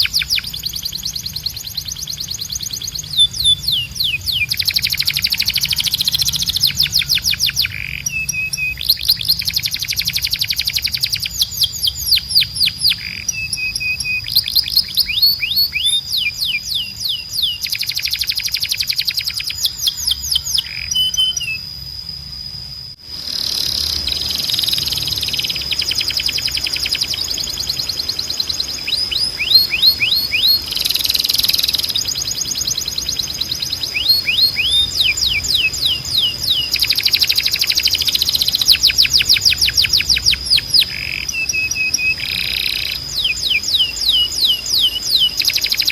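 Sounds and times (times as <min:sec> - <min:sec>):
canary singing: 0:00.0 - 0:21.9, 0:23.1 - 0:45.9.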